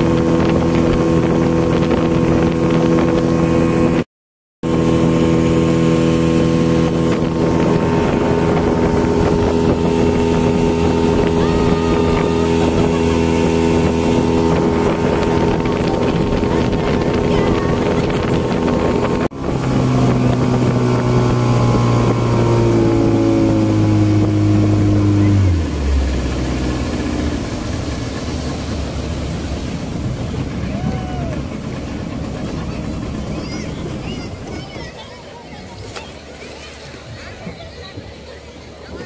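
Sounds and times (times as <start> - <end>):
motorboat engine running: 0.0 - 4.0, 4.6 - 39.0
rushing water and wind: 0.0 - 4.0, 4.6 - 39.0.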